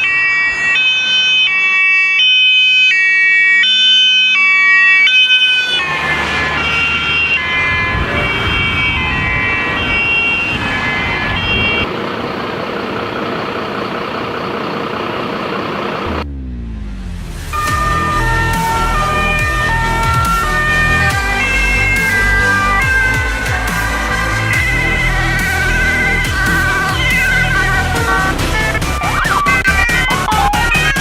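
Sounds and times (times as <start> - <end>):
fire engine two-tone siren: 0.0 - 16.2, 17.5 - 31.0
vehicle engine and tyre noise: 0.0 - 31.0.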